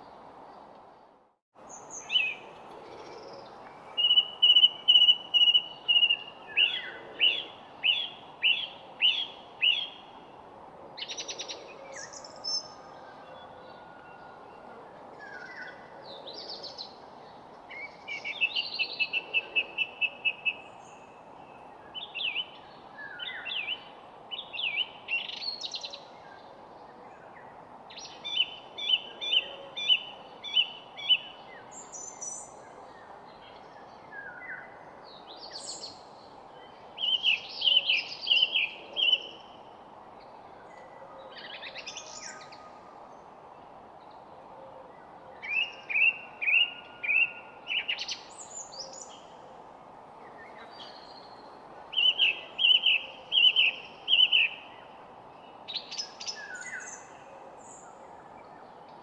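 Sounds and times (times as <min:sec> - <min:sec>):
songbirds chirping and trilling: 0:00.0 - 0:59.0
steady background hiss: 0:00.0 - 0:59.0.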